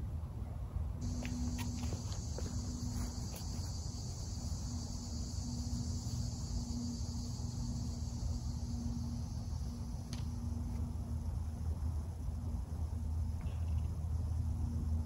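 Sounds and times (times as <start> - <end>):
faint low hum: 0.0 - 15.0
insect chorus buzzing: 1.0 - 15.0.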